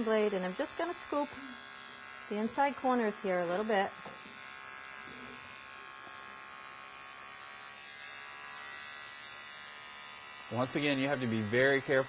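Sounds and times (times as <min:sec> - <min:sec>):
electric clipper buzzing: 0:00.0 - 0:12.0.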